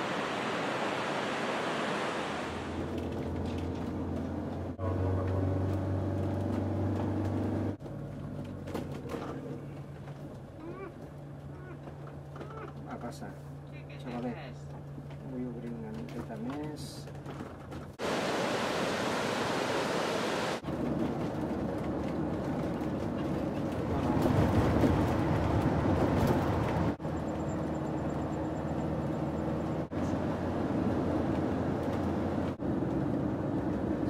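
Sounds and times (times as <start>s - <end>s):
vehicle cabin road noise: 0.0s - 18.4s, 20.4s - 34.0s.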